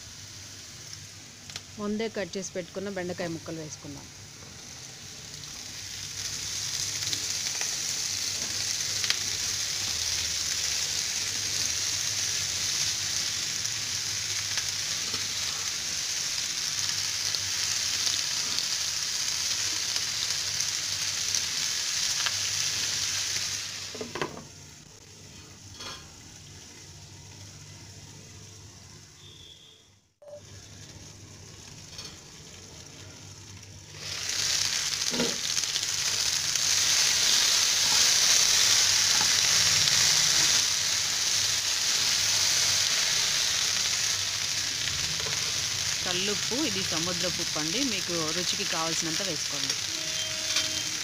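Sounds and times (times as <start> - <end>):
vegetables sizzling in oil: 0.0 - 51.0.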